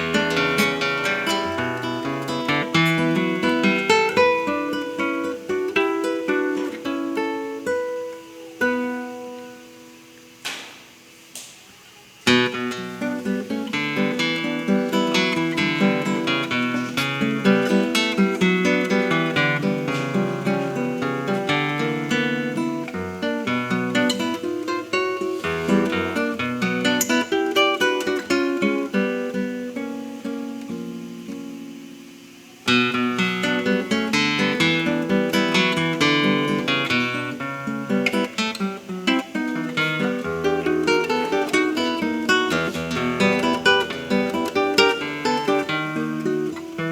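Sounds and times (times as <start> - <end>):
fingerpicked acoustic guitar: 0.0 - 46.9.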